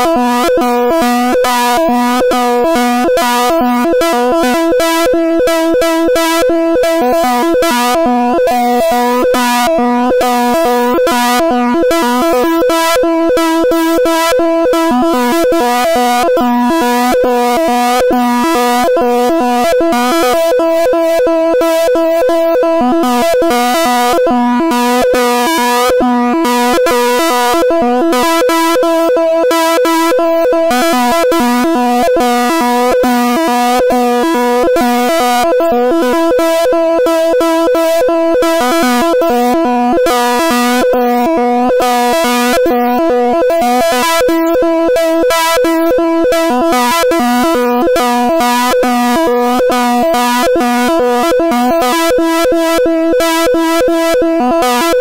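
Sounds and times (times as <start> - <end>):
buzzy synthesizer-like drone: 0.0 - 55.0.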